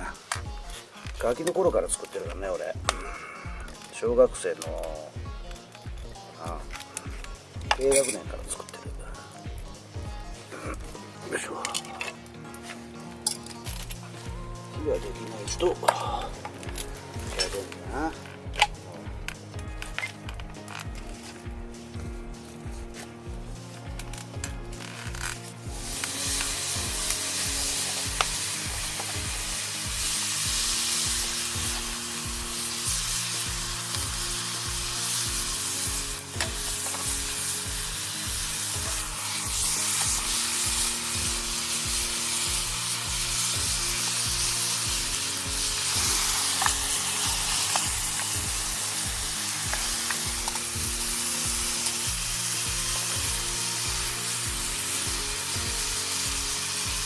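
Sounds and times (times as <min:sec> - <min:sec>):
oil popping: 0:00.0 - 0:57.0
onions sizzling in a pan: 0:00.0 - 0:57.0
stirring clicks: 0:04.6 - 0:53.4.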